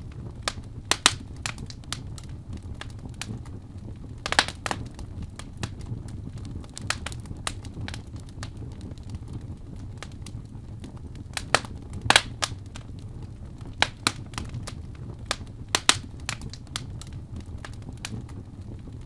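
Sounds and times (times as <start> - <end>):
rumble of flames: 0.0 - 19.0
wood fire crackling: 0.0 - 19.0.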